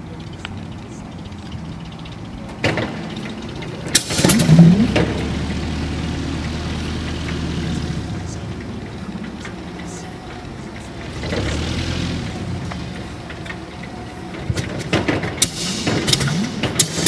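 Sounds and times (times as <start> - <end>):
aero engine starting and running: 0.0 - 17.0
exhaust bangs: 0.0 - 17.0.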